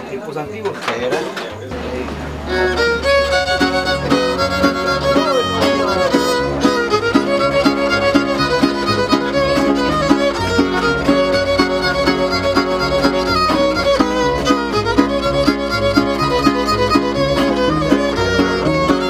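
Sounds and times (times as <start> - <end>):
fiddle melody: 1.7 - 19.0
steady plucked beat: 1.7 - 19.0.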